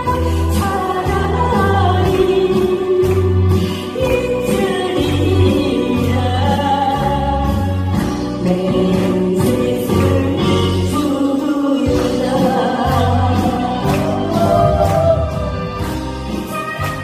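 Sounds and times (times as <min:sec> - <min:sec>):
woman singing into a microphone: 0:00.0 - 0:15.6.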